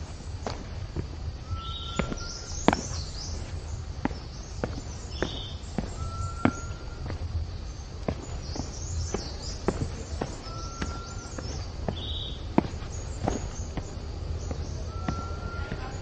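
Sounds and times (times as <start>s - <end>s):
bird calling: 0.0s - 16.0s
footsteps on stone steps: 0.0s - 16.0s.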